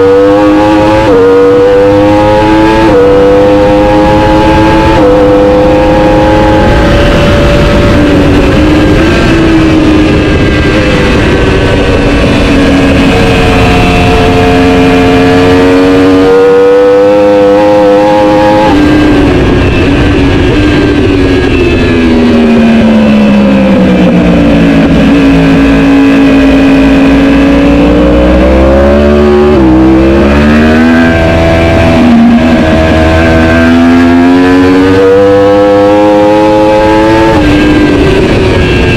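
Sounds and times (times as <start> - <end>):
superbike engine revving: 0.0 - 38.9
wind noise: 0.0 - 38.9.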